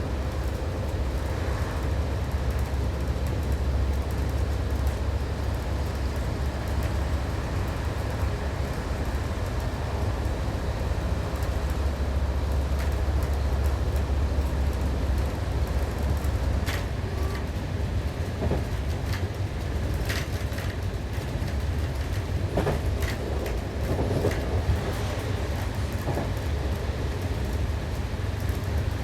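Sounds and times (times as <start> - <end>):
railcar engine rumble: 0.0 - 29.0
wheel and track noise: 0.0 - 29.0.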